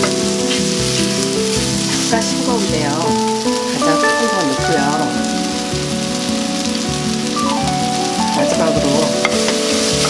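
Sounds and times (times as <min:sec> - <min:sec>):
background music with held notes: 0:00.0 - 0:10.0
food sizzling in a frying pan: 0:00.0 - 0:10.0.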